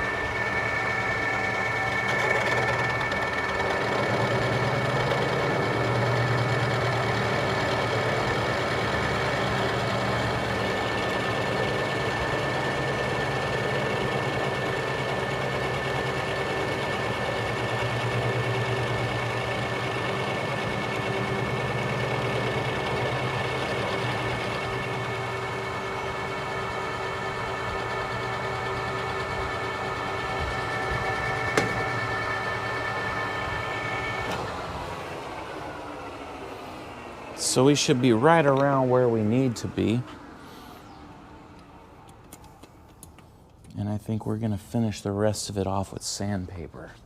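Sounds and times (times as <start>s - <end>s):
metal lathe humming and whining: 0.0s - 42.2s.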